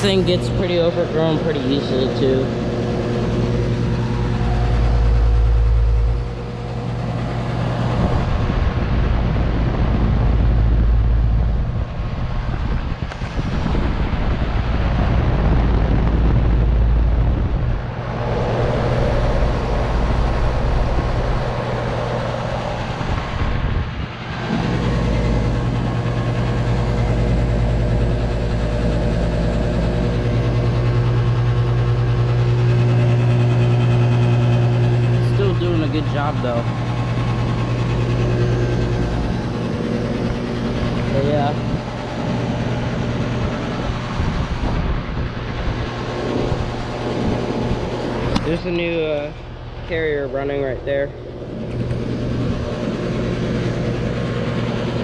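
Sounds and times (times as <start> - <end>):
air conditioner buzz and hum: 0.0 - 55.0
deep low rumble: 0.0 - 55.0.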